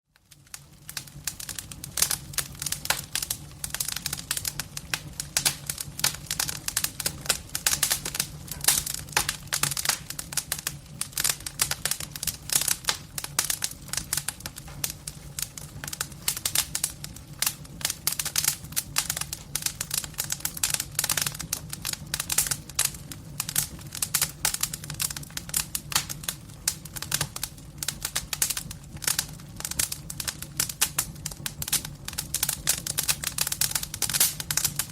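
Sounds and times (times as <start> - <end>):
wood fire crackling: 0.1 - 34.9.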